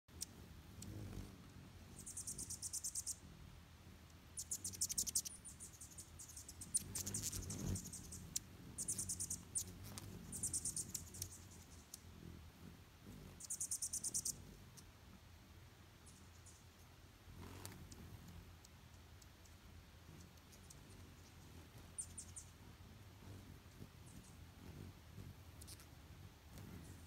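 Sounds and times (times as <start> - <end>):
hummingbirds chattering: 0.1 - 15.2, 15.9 - 27.0.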